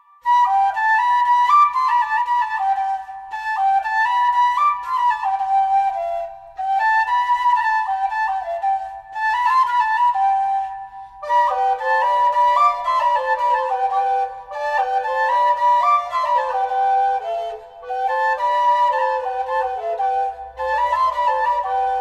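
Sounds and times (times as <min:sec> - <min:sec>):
flute melody: 0:00.0 - 0:22.0.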